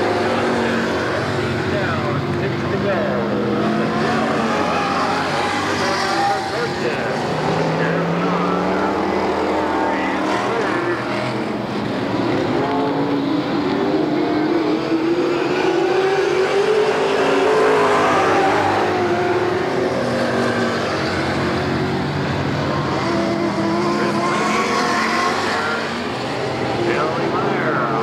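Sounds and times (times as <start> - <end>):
stock car engines racing: 0.0 - 28.0.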